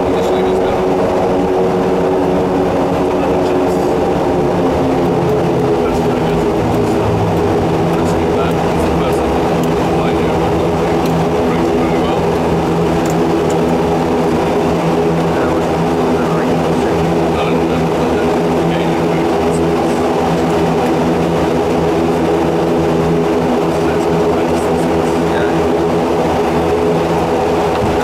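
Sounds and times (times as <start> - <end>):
aircraft engines droning: 0.0 - 28.0.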